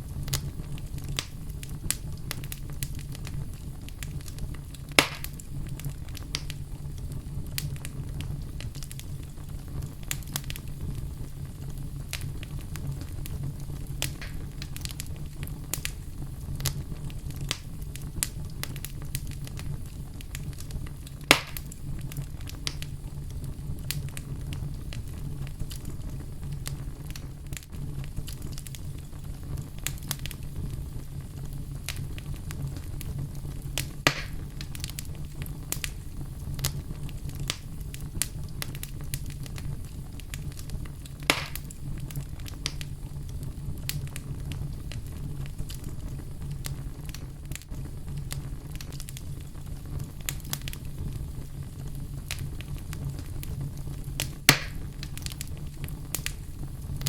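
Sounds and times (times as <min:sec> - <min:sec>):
fire crackling: 0:00.0 - 0:57.0
loud fire pops: 0:00.0 - 0:57.0
low rumble of flames: 0:00.0 - 0:57.0.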